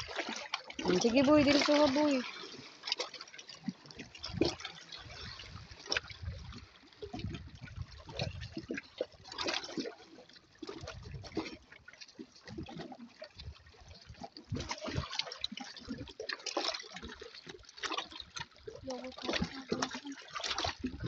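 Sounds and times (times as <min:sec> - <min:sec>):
waves splashing against rocks: 0:00.0 - 0:11.6, 0:12.6 - 0:21.0.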